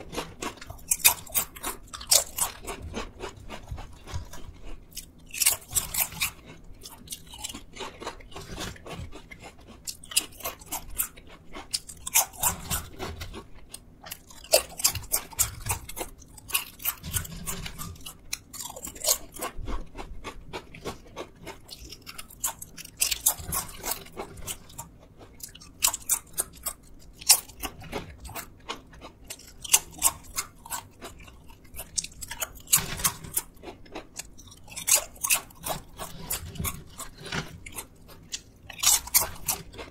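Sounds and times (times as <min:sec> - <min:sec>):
crunching potato chips: 0:00.0 - 0:39.9.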